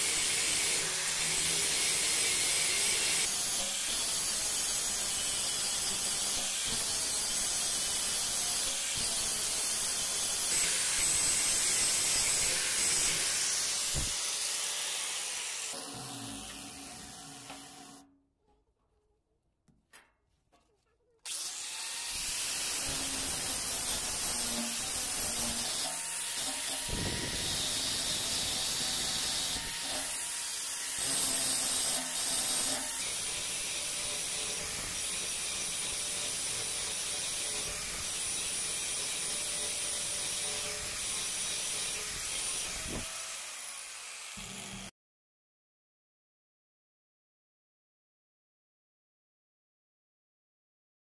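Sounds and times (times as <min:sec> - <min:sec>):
angle grinder grinding steel: 0:00.0 - 0:18.1, 0:21.3 - 0:44.9.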